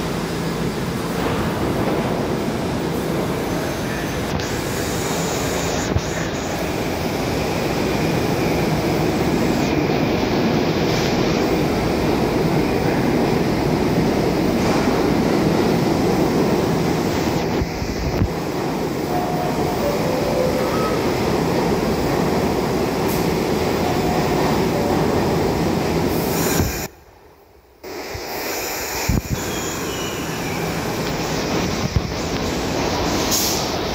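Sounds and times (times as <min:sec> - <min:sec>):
subway train rumbling on rails: 0:00.0 - 0:33.9.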